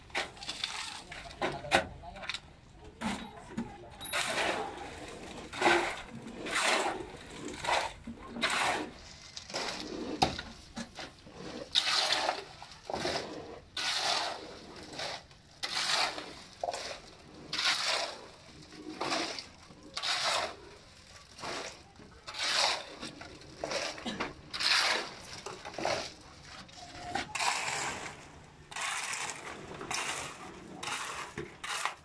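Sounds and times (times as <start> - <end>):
shovel scraping wet concrete: 0.0 - 2.0, 3.0 - 32.0.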